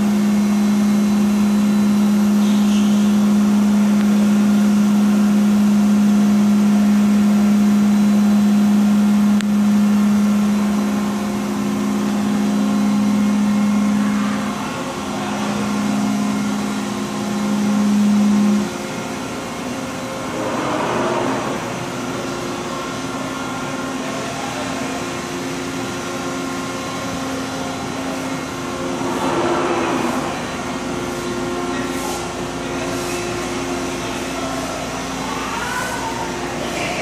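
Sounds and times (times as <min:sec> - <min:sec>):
industrial machinery humming: 0:00.0 - 0:37.0.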